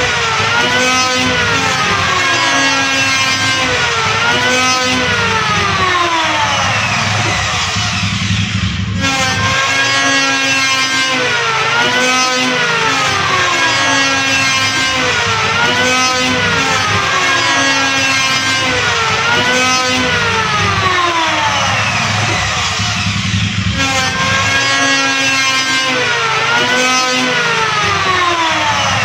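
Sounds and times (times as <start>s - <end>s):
electric hand planer whining: 0.0s - 29.0s.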